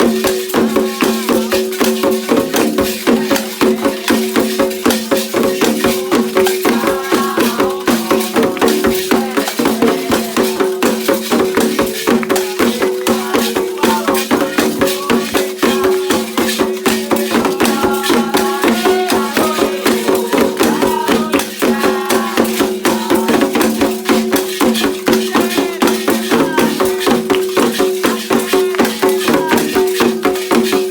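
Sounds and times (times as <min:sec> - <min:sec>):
voices singing a chant: 0:00.0 - 0:30.8
shaken rattles and drums: 0:00.0 - 0:30.9.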